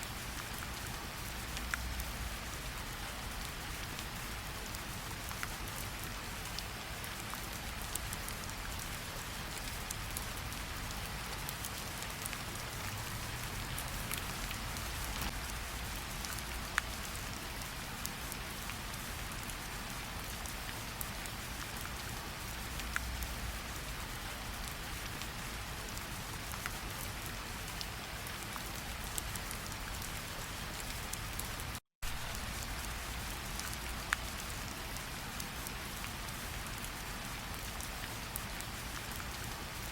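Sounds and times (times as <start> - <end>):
steady rain hiss: 0.0 - 39.9
close raindrops ticking: 0.1 - 39.8.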